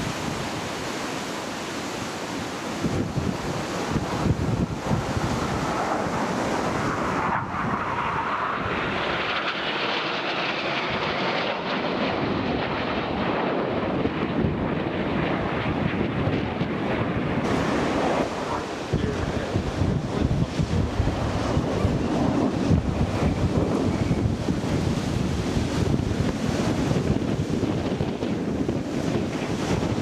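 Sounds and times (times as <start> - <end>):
wind buffeting microphone: 0.0 - 9.8, 12.0 - 30.0
jets flying past: 0.0 - 30.0.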